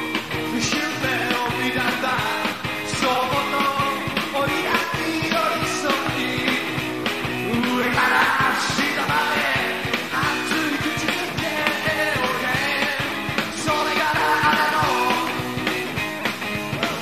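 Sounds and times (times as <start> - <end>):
bass guitar: 0.0 - 17.0
electric guitar: 0.0 - 17.0
steady drum beat: 0.0 - 17.0
man singing: 0.5 - 6.8, 7.4 - 15.6.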